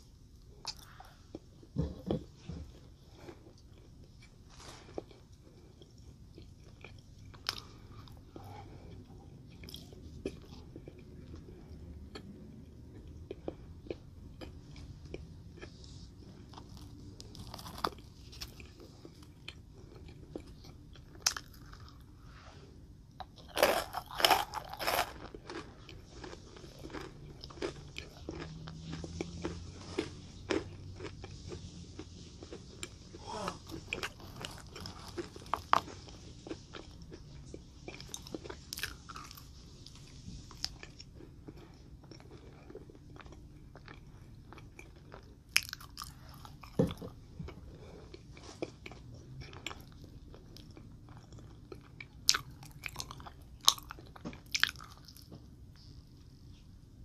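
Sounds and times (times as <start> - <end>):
person crunching sweets: 0.1 - 56.1.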